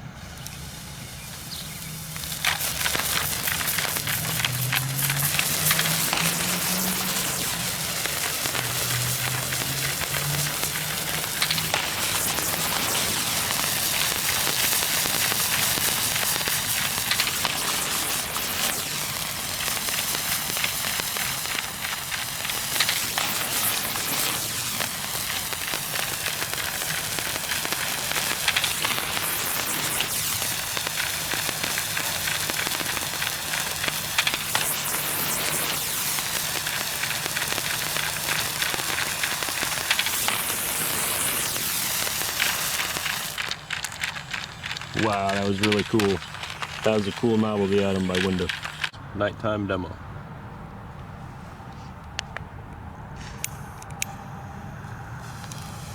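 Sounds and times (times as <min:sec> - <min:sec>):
sparkler fizzing and crackling: 0:00.0 - 0:49.0, 0:53.4 - 0:55.9.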